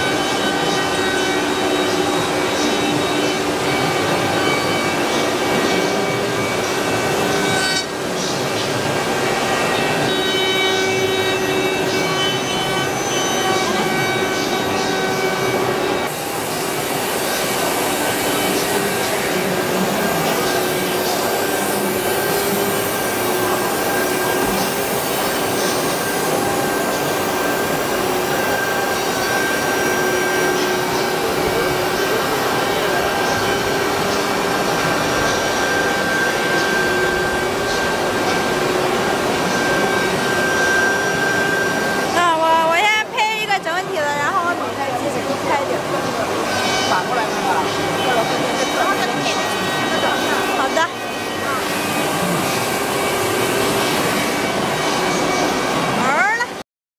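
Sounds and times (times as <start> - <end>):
router cutting wood: 0.0 - 42.2, 45.8 - 56.0
router spindle whine: 0.0 - 42.4, 44.3 - 56.2.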